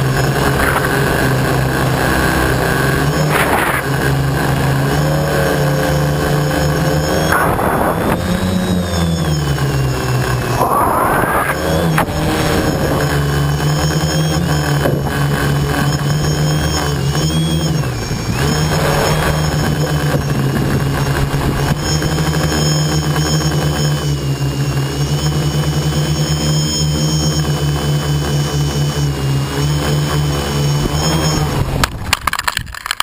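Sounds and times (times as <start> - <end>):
drone motors buzzing: 0.0 - 32.4.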